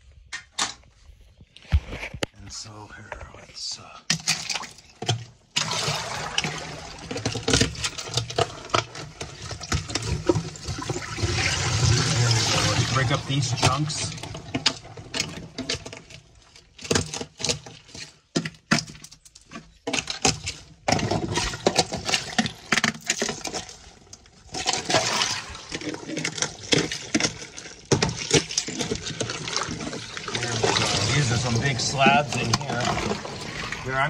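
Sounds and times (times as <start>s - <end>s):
ice cracking and clinking: 4.1s - 34.0s.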